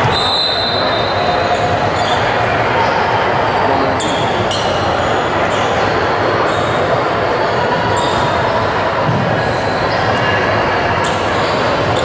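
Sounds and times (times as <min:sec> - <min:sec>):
sneaker squeaks: 0:00.0 - 0:03.0, 0:03.9 - 0:12.0
crowd voices echoing: 0:00.0 - 0:12.0.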